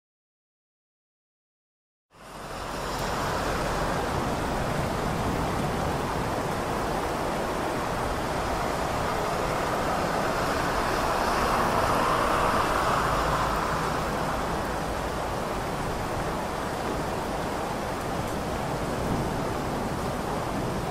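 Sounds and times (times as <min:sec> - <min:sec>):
heavy rain: 0:02.1 - 0:20.9
traffic on wet streets: 0:02.1 - 0:20.9.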